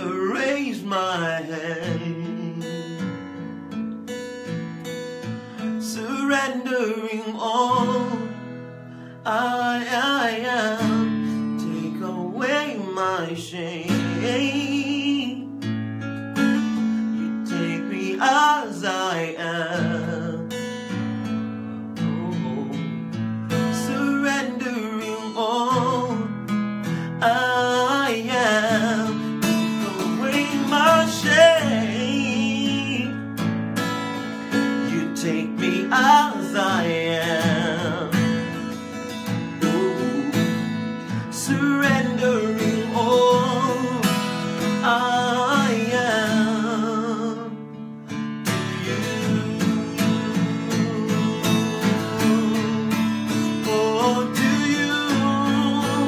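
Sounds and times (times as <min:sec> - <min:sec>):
man singing: 0:00.0 - 0:15.7, 0:16.4 - 0:56.0
acoustic guitar strumming: 0:00.0 - 0:56.0.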